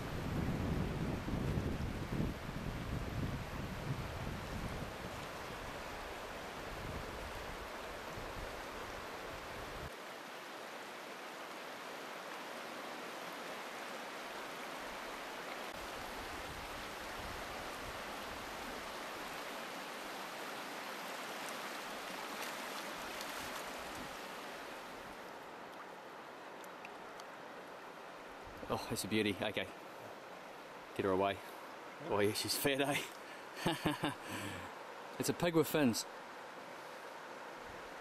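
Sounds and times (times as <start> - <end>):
river running over stones: 1.2 - 38.0.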